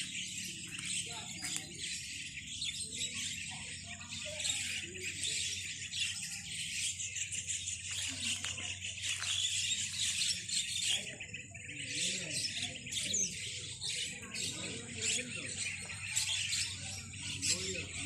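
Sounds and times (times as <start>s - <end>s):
starlings chattering: 0.0s - 18.0s.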